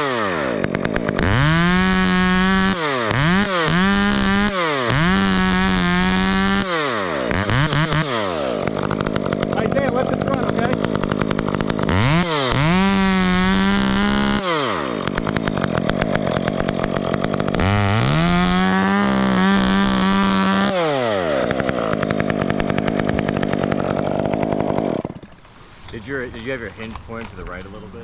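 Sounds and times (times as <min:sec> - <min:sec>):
chainsaw revving: 0:00.0 - 0:25.4.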